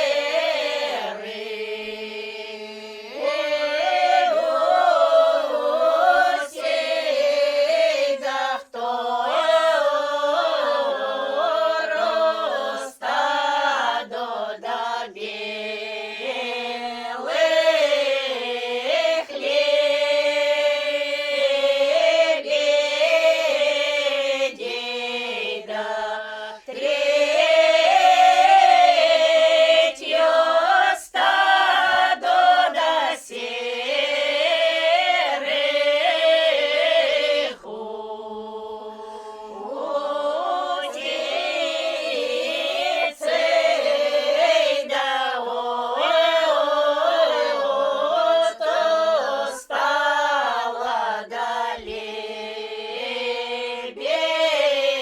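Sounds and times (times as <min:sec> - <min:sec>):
folk ensemble singing a cappella: 0:00.0 - 0:55.0.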